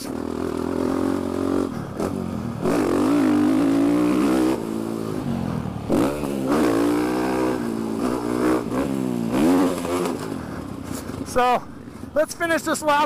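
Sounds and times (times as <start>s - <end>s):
dirt bike engine revving: 0.0s - 11.4s.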